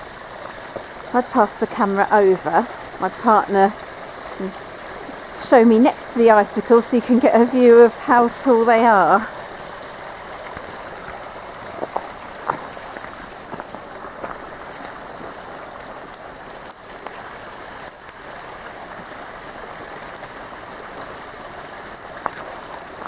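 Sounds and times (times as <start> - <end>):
water dripping and trickling: 0.0 - 23.0.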